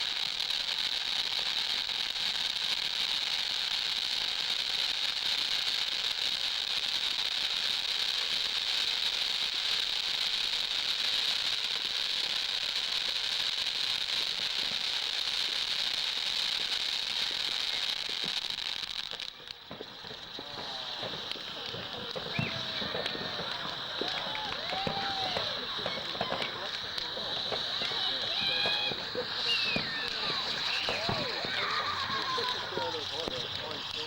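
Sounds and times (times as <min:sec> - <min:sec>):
firework fountain hissing: 0:00.0 - 0:34.0.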